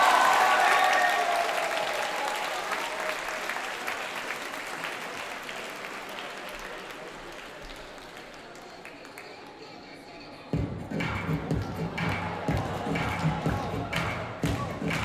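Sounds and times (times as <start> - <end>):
audience applauding: 0.0 - 9.6, 11.6 - 15.0.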